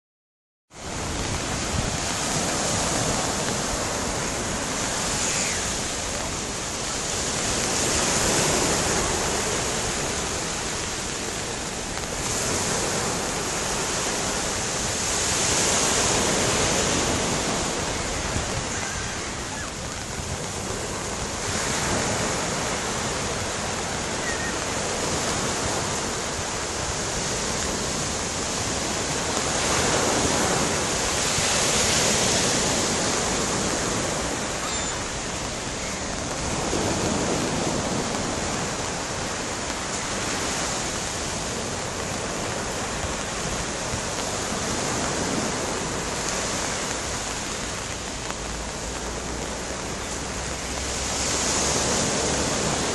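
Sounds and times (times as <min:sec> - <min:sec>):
small waves breaking on beach: 0:00.7 - 0:52.9.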